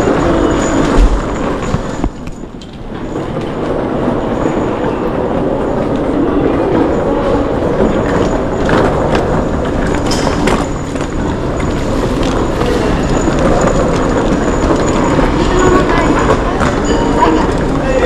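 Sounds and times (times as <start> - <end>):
suitcases rolling on tiled floor: 0.0 - 18.0.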